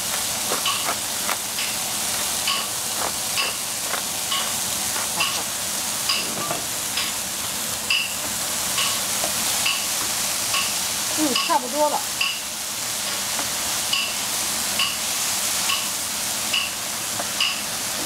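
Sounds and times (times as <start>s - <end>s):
mushrooms sizzling in a hot pan: 0.0s - 18.0s.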